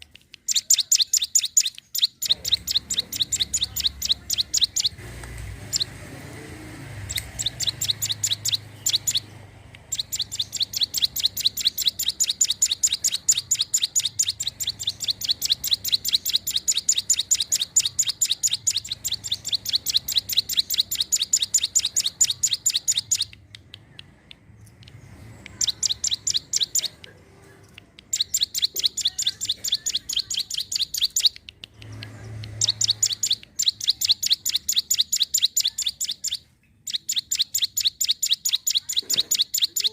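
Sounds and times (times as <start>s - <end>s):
bird singing rapid high chirps: 0.2s - 27.1s, 27.8s - 39.9s.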